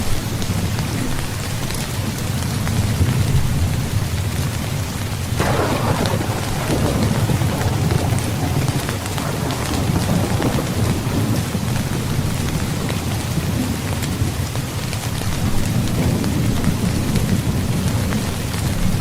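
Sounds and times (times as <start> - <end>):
heavy rain falling: 0.0 - 19.0
rolling rumble of thunder: 2.4 - 19.0.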